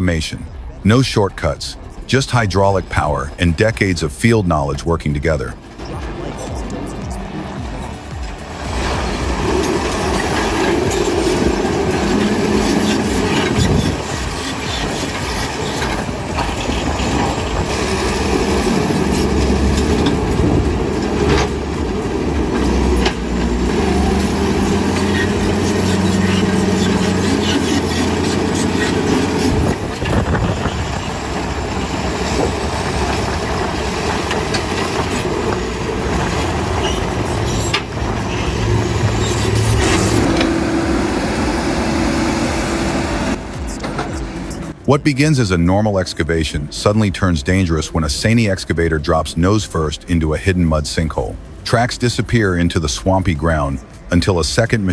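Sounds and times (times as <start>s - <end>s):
diesel engine under load: 0.0s - 54.9s
metal tracks clanking and squealing: 0.3s - 54.9s.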